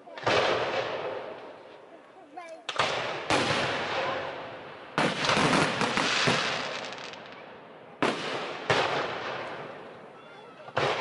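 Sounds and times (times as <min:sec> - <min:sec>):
fireworks bangs: 0:00.0 - 0:01.9, 0:02.6 - 0:11.0
fireworks crackling: 0:00.0 - 0:11.0.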